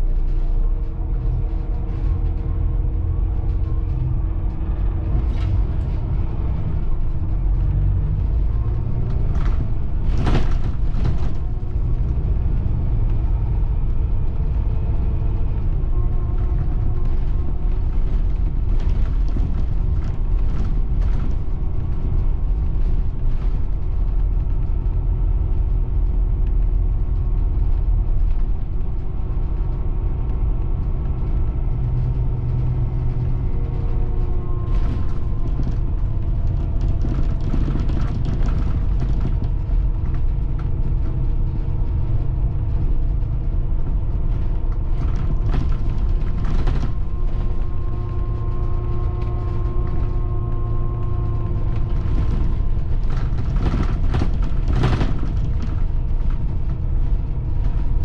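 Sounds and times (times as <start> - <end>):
bus engine drone: 0.0 - 58.0
road rumble: 0.0 - 58.0
body knocks and rattles: 1.0 - 58.0.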